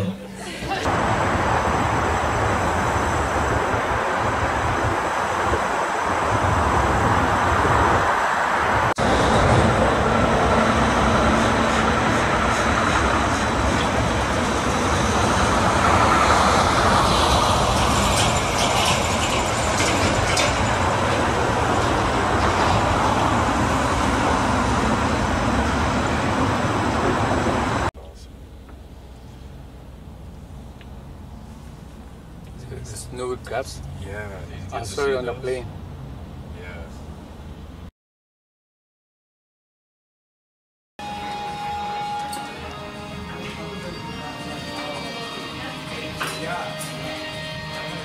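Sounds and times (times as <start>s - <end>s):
vehicles rumbling: 0.0s - 37.9s, 41.1s - 48.0s.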